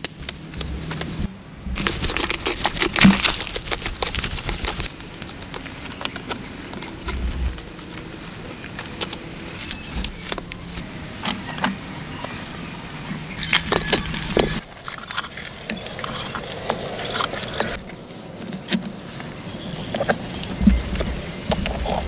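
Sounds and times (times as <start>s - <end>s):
low steady hum: 0.0s - 22.0s
stones clinking and scraping: 1.8s - 10.9s, 13.1s - 22.0s.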